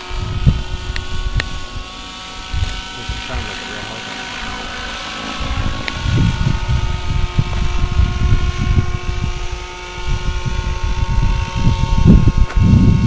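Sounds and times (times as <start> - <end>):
model helicopter high tone: 0.0 - 11.3
wind buffeting microphone: 0.0 - 13.0.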